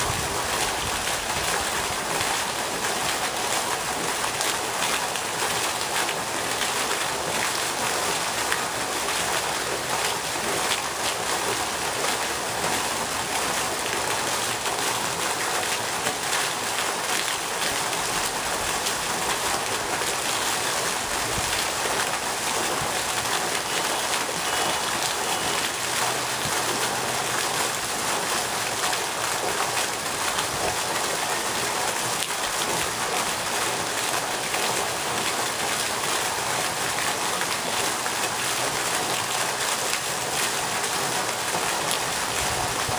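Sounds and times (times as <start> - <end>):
fountain splashing onto water: 0.0 - 42.9.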